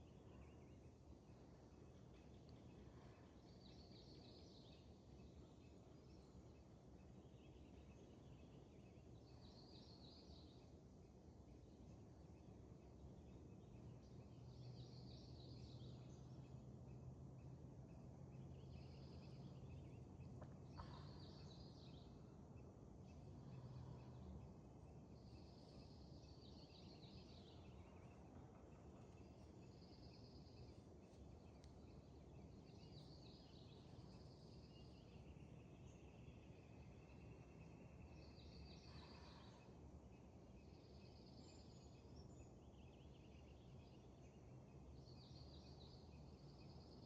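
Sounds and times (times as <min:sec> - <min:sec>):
faint songbirds singing: 0:00.0 - 0:47.0
low steady hum: 0:00.0 - 0:47.0.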